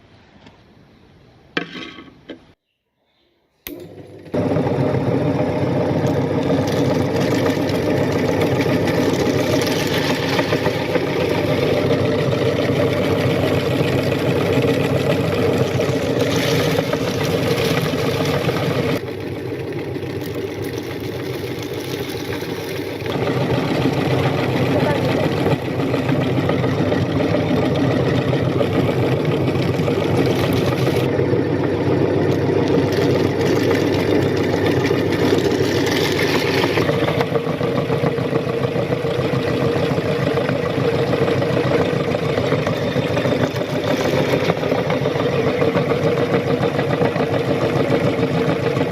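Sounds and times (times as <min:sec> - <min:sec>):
meat grinder motor running: 0:03.7 - 0:48.9.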